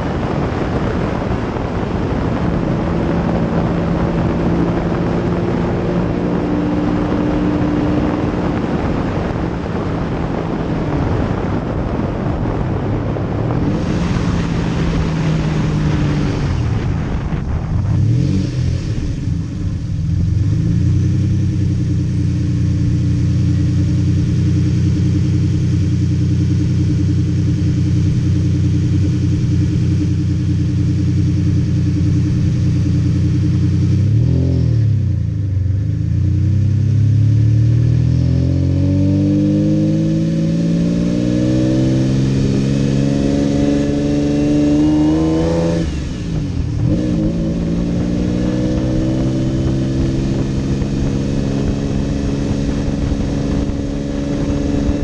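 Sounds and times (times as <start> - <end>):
car engine drone: 0.0 - 55.0
wind and road noise: 0.0 - 55.0.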